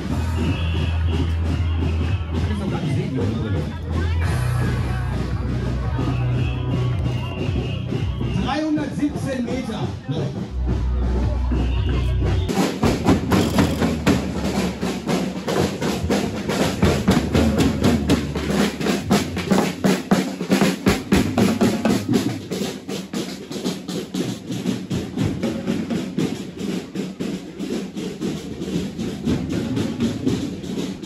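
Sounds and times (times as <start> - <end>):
marching drums beating: 0.0 - 31.0.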